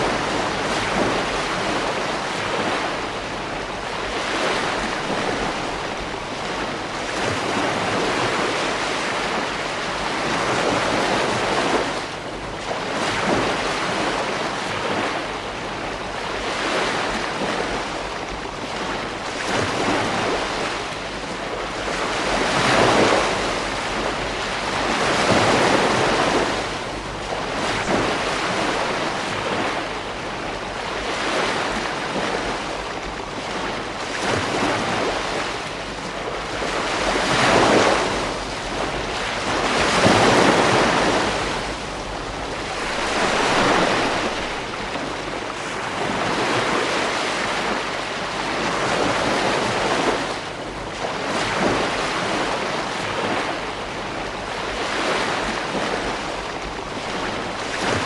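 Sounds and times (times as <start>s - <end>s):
ocean waves breaking: 0.0s - 58.0s
wind on microphone: 0.0s - 58.0s.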